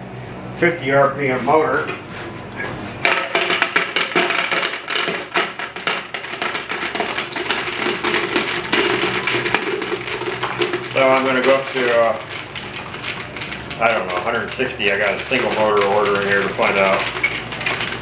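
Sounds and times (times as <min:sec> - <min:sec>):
belt conveyor motor running: 0:03.0 - 0:18.0
small rocks clattering: 0:03.0 - 0:18.0.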